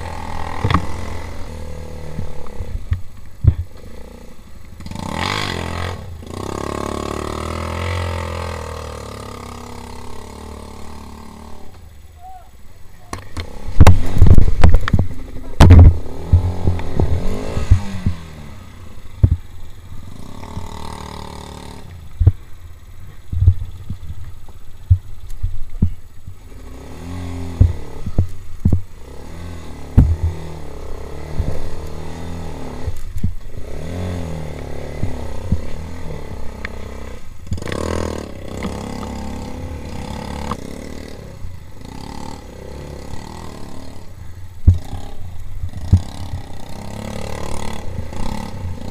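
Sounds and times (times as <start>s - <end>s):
quad bike engine revving: 0.0s - 12.3s, 13.1s - 25.2s, 25.8s - 48.9s.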